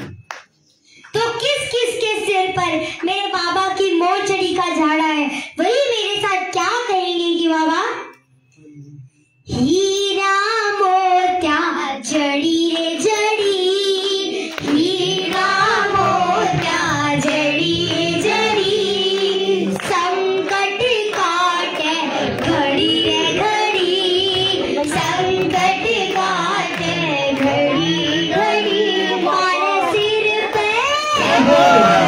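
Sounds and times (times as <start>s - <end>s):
girl singing into a microphone: 1.0s - 8.1s, 9.5s - 31.4s.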